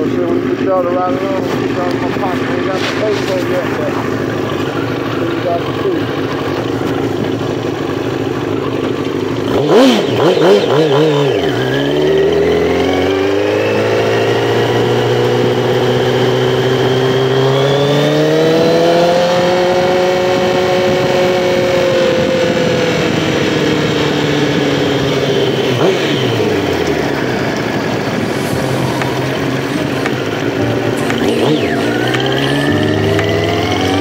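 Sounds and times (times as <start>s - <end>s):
high motor whine: 0.0s - 34.0s
small vehicle motor running: 0.0s - 34.0s.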